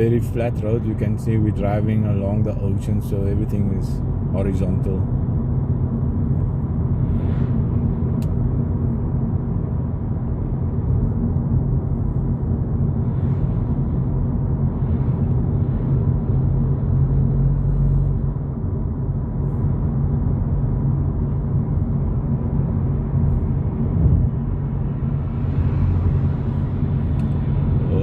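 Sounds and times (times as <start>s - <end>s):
road and engine rumble in car: 0.0s - 28.0s.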